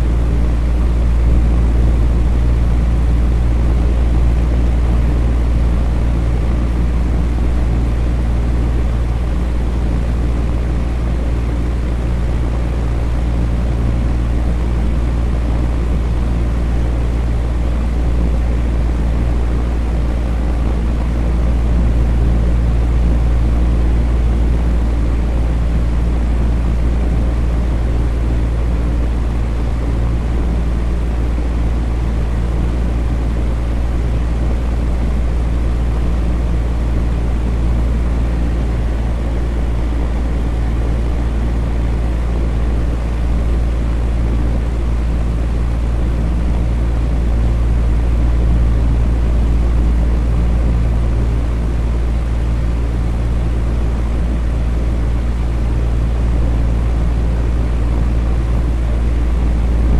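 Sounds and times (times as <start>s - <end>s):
electric fan humming: 0.0s - 59.9s.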